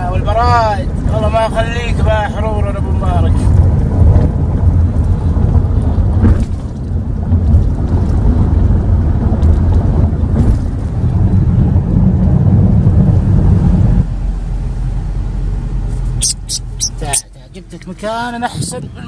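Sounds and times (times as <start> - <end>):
wind buffeting microphone: 0.0 - 14.3, 18.0 - 19.0
vehicle rumble: 0.0 - 19.0.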